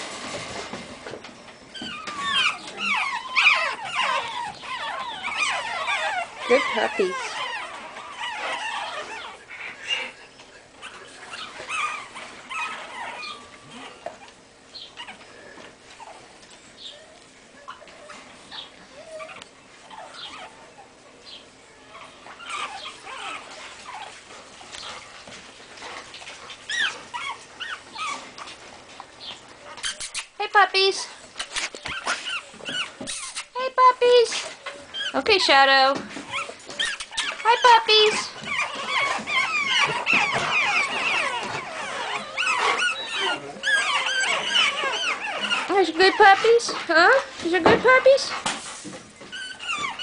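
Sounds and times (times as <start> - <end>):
puppies whimpering and yipping: 0.0 - 50.0
puppies squealing: 1.7 - 25.1, 25.8 - 28.6, 29.2 - 30.4, 31.3 - 48.4, 49.1 - 50.0.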